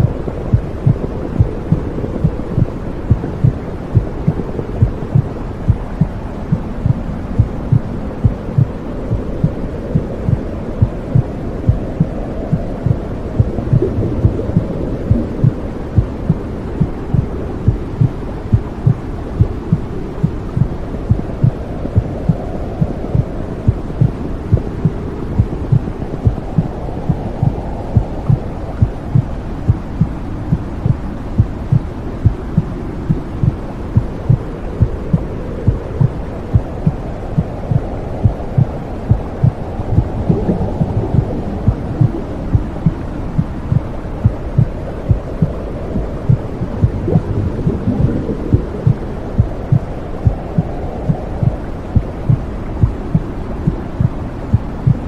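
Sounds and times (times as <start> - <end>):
heartbeat thumping: 0.0 - 55.0
low whooshing rush: 0.0 - 55.0.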